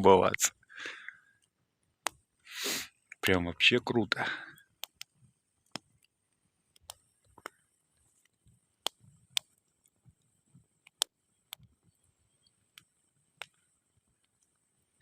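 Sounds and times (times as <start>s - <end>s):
faint steady hiss: 0.0s - 15.0s
campfire crackling and popping: 1.0s - 15.0s.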